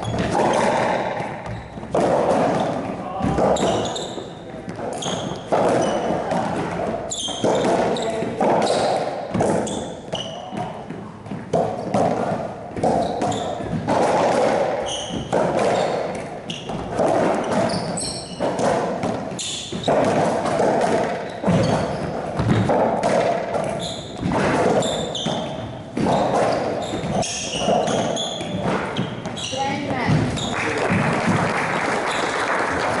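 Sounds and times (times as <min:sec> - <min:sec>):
shoes squeaking on court: 0:00.0 - 0:30.6
racquetball hits ringing: 0:00.0 - 0:31.4.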